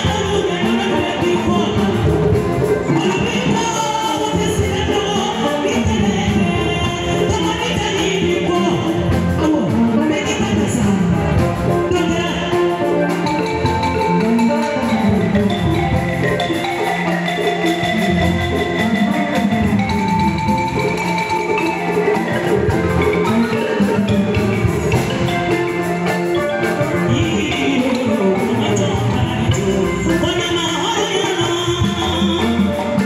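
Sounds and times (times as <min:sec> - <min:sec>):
balafon played with mallets: 0:00.0 - 0:33.0
drums: 0:00.0 - 0:33.0
guitar: 0:00.0 - 0:33.0.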